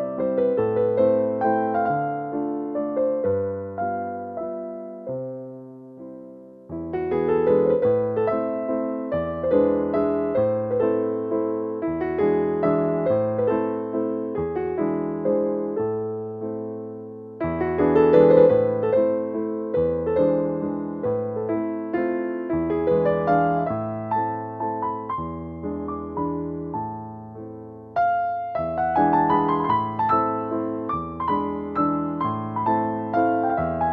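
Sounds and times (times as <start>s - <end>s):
gentle piano music: 0.0s - 33.9s.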